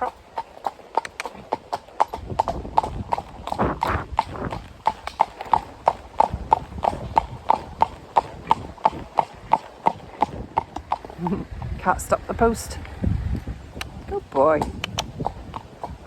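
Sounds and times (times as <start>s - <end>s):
horse hooves trotting on road: 0.0s - 16.0s.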